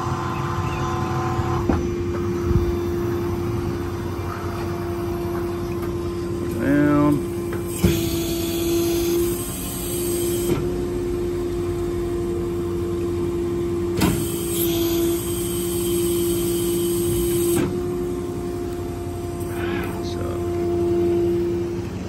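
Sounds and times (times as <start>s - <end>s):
crane hydraulics whining: 0.0s - 22.0s.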